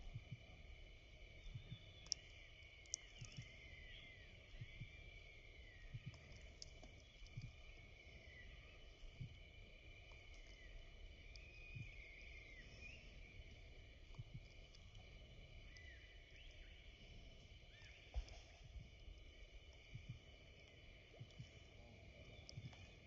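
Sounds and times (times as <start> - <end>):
insect chirring: 0.0 - 23.0.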